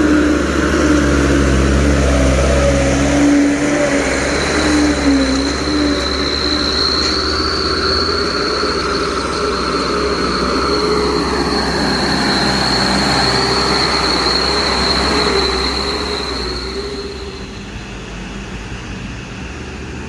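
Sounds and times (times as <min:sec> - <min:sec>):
high-pitched squeal: 0:00.0 - 0:19.5
truck engines rumbling: 0:00.0 - 0:20.0.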